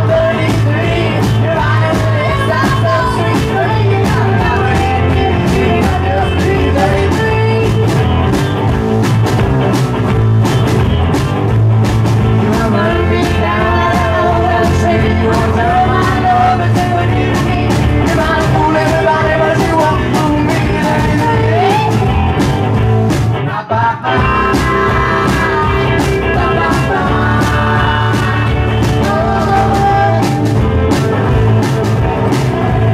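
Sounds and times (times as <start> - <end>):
steady drum beat: 0.0 - 23.5, 24.1 - 32.9
electric guitar: 0.0 - 32.9.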